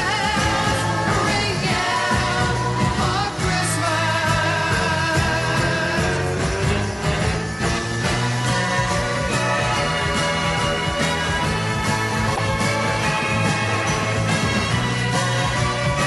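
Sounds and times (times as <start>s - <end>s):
pop song with singing and band: 0.0s - 16.0s.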